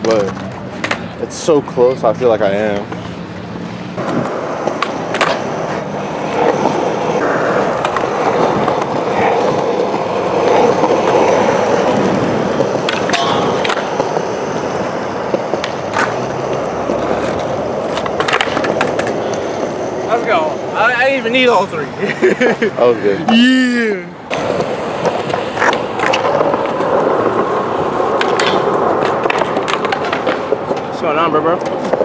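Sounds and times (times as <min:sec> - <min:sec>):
skateboard clacks: 0:00.0 - 0:01.3, 0:04.0 - 0:22.5, 0:24.2 - 0:32.0
skateboard wheels rolling: 0:00.0 - 0:32.0.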